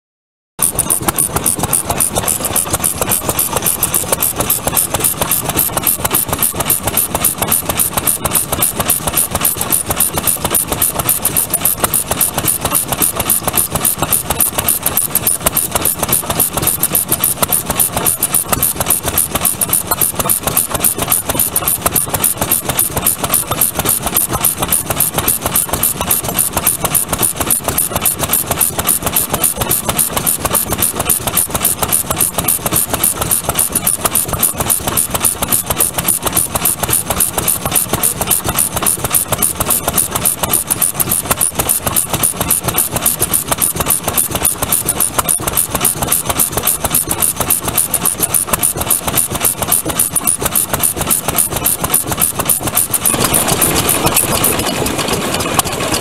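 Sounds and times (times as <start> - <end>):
stationary engine running: 0.6 - 56.0.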